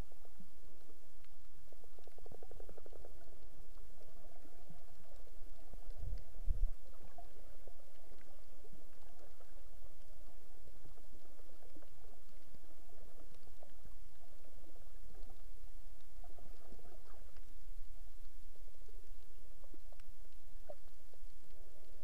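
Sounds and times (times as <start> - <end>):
faint crackling clicks: 0.0 - 22.0
underwater low rumble and hiss: 0.0 - 22.0.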